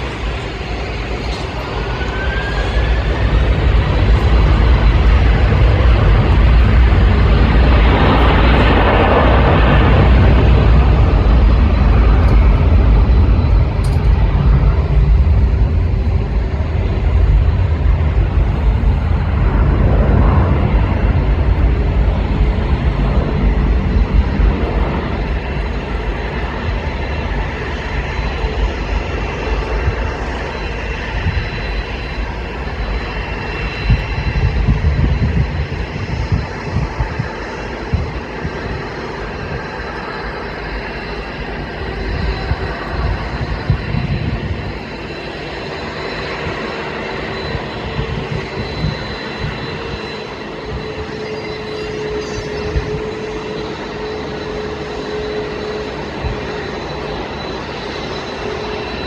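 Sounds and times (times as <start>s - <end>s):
jet engines rumbling on takeoff: 0.0s - 59.0s.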